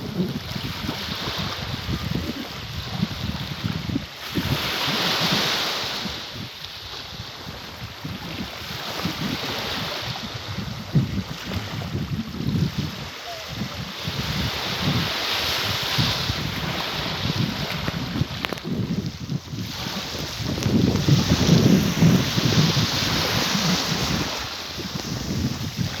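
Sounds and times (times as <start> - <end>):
rushing water: 0.0 - 26.0
wind buffeting microphone: 0.0 - 26.0.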